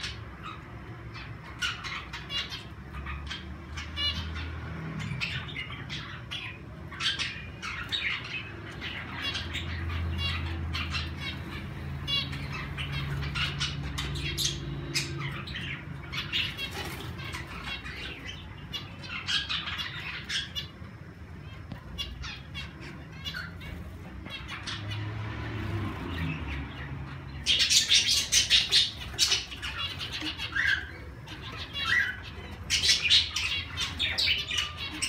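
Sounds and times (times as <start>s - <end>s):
birds chirping and calling: 0.0s - 35.0s.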